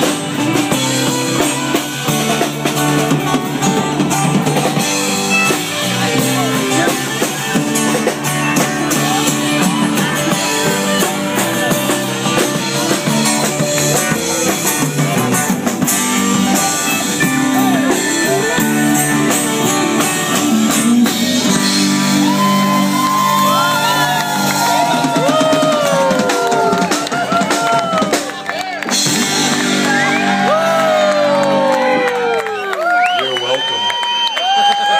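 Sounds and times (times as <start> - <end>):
acoustic guitar: 0.0 - 31.5
drum kit: 0.0 - 32.3.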